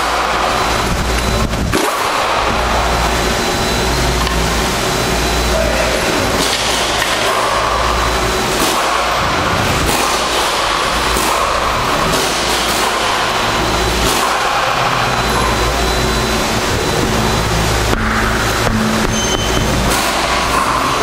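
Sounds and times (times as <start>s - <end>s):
constant rushing hum: 0.0s - 21.0s.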